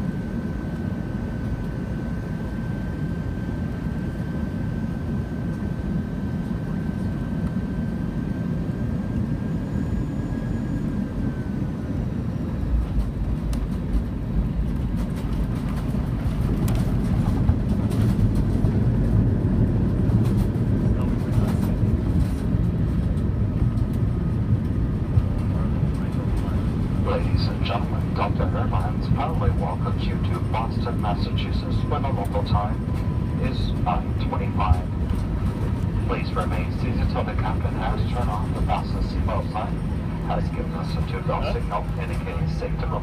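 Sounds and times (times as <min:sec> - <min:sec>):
airliner cabin rumble: 0:00.0 - 0:43.0.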